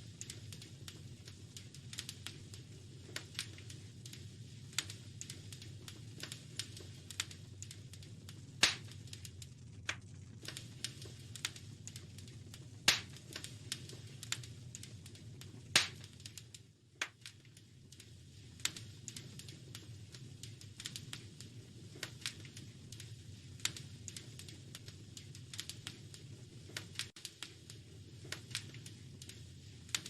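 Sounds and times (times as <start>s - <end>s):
low steady rumble: 0.0s - 30.0s
sharp fire pops: 0.0s - 30.0s
wood fire crackling: 0.0s - 30.0s.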